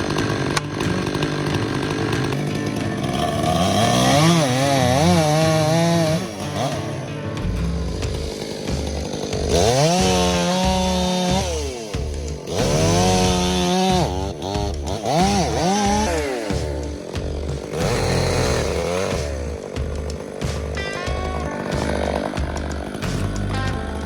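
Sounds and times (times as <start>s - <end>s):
chainsaw revving and cutting: 0.0s - 24.0s
music with steady beat: 1.0s - 24.0s.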